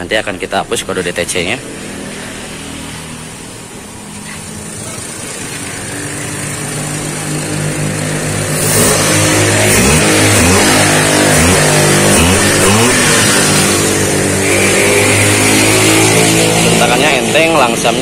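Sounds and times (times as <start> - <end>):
car engine revving: 0.3 - 18.0.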